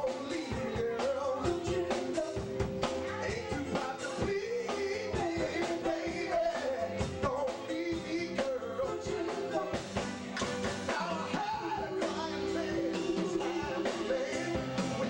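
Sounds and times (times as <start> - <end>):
backing singers: 0.0 - 15.0
drum kit beat: 0.0 - 15.0
lead singer: 0.0 - 15.0.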